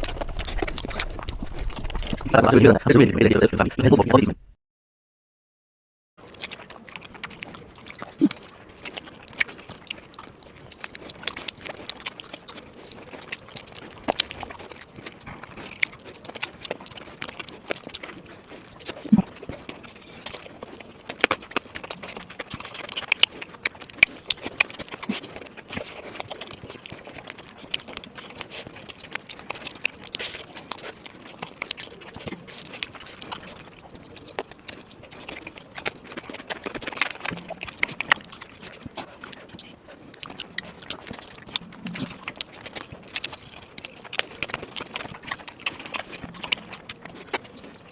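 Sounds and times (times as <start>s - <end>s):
person chewing with lip smacks: 0.0s - 4.3s, 6.2s - 47.9s.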